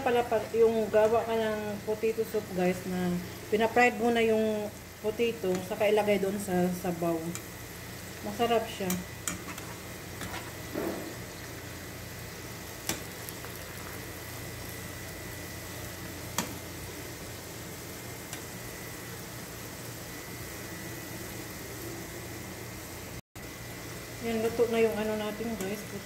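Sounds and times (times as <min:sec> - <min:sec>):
potatoes sizzling in oil: 0:00.0 - 0:26.0.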